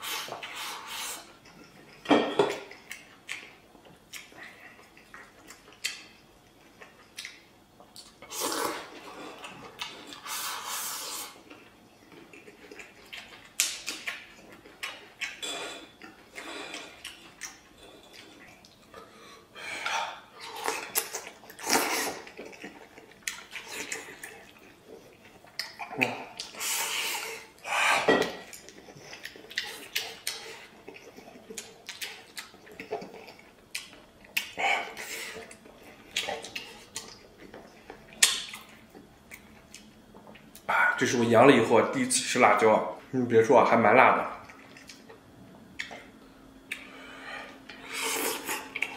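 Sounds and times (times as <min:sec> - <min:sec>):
wet slurping and chewing: 0:02.7 - 0:18.9, 0:20.2 - 0:41.1, 0:46.7 - 0:48.9.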